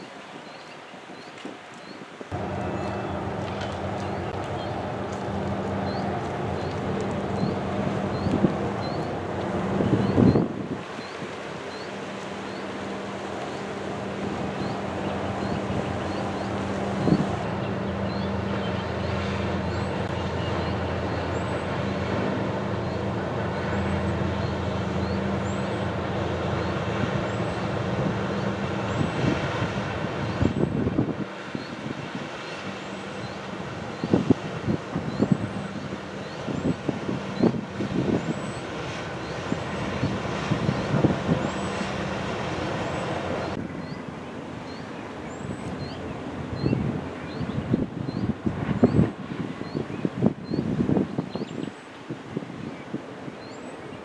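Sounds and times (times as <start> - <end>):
wind buffeting microphone: 0.0 - 54.0
ship diesel engines droning: 2.3 - 49.8.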